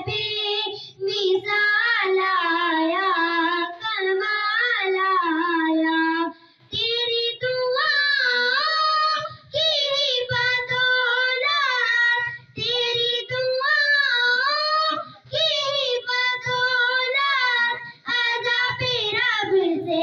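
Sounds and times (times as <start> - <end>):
girls singing into microphones: 0.0 - 20.0.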